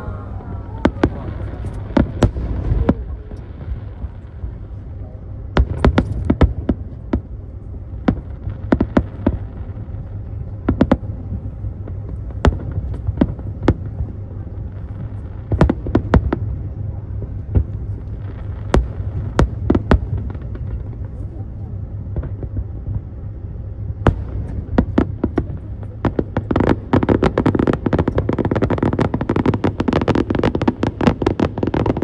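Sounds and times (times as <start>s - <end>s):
fireworks bangs: 0.0s - 32.0s
low rumble: 0.0s - 32.0s.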